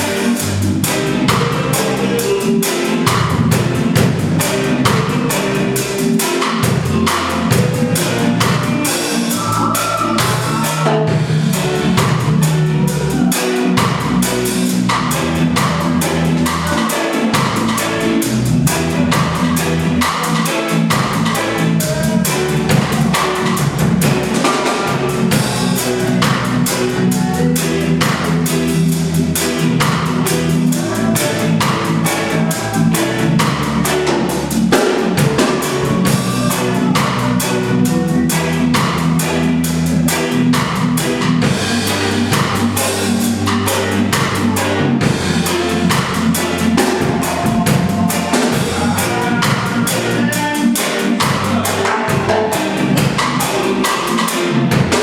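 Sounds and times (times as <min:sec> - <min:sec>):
bass guitar notes: 0:00.0 - 0:55.0
drum kit steady beat: 0:00.0 - 0:55.0
guitar: 0:00.0 - 0:55.0.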